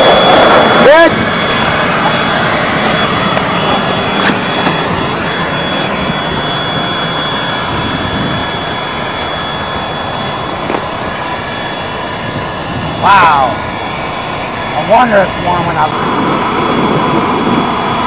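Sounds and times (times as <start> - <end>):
welding machine running with high whine: 0.0 - 18.0.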